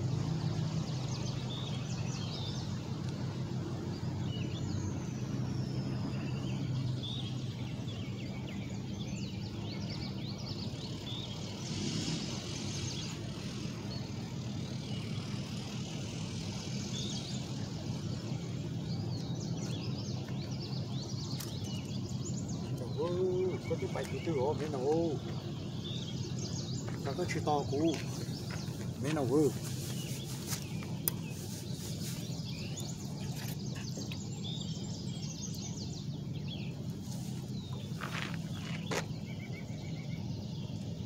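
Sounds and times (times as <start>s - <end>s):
low engine drone: 0.0s - 41.0s
bird chirps: 0.5s - 41.0s.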